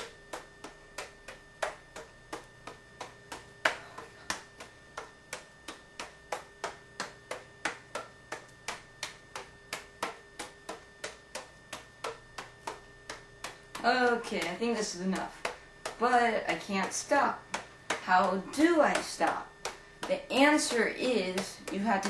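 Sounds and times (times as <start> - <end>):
juggling pins smacking into palms: 0.0 - 22.0.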